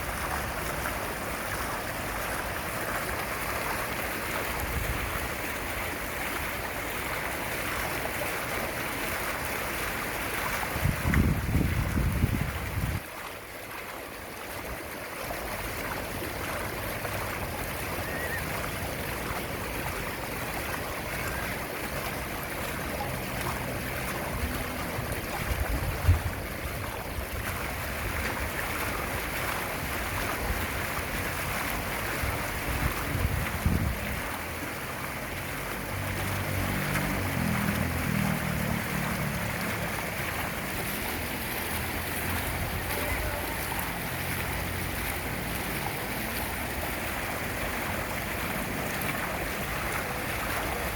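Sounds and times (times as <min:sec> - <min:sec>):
fountain water splashing: 0:00.0 - 0:50.9.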